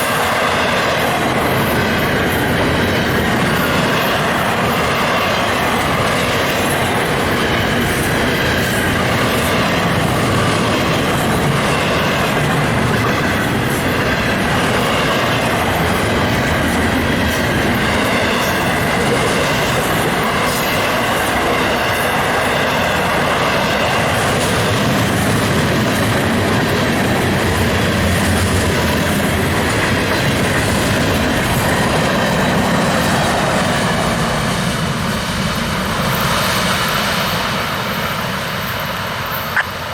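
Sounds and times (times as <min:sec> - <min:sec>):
wheels clicking over rail joints: 0:00.0 - 0:36.3
train wheels rumbling on rails: 0:00.0 - 0:39.9.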